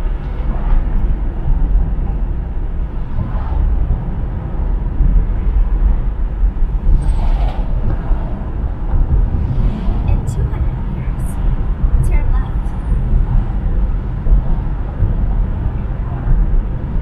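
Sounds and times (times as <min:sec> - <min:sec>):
car driving rumble from inside: 0:00.0 - 0:17.0.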